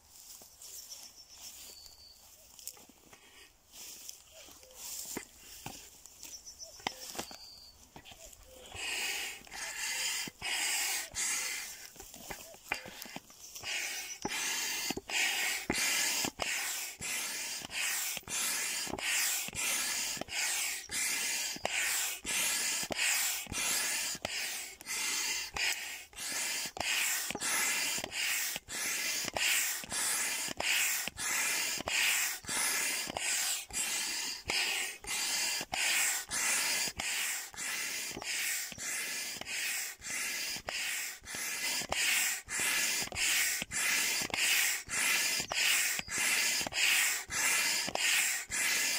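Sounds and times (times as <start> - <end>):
hand pump air hissing: 2.7 - 48.9.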